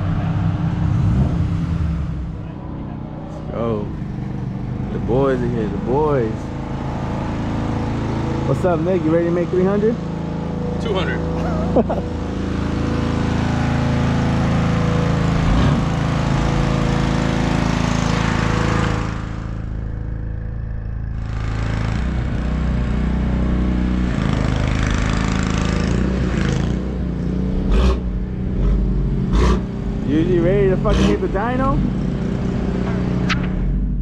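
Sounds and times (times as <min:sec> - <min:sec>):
car engine droning: 0:00.0 - 0:34.0.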